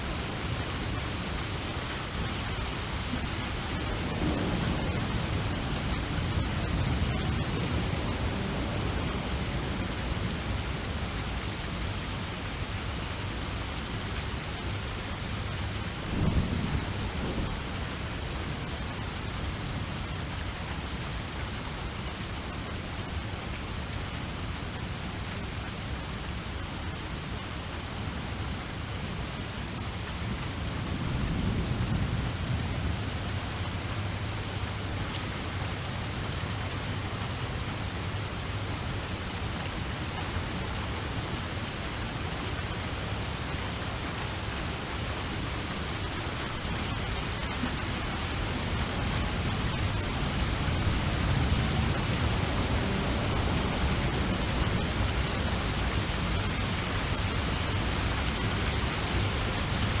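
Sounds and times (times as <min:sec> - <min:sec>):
steady rain hiss: 0:00.0 - 1:00.0.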